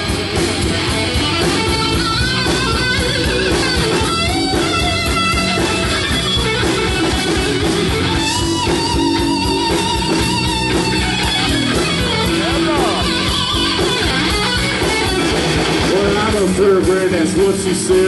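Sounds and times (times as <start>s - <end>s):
electric guitar solo: 0.0s - 17.1s
bass and drums: 0.0s - 18.0s.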